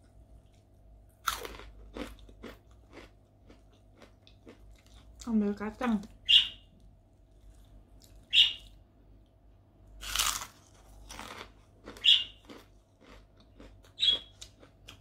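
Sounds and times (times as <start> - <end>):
crunching and chewing crackers: 0.0 - 5.3, 6.8 - 8.8, 9.9 - 15.0.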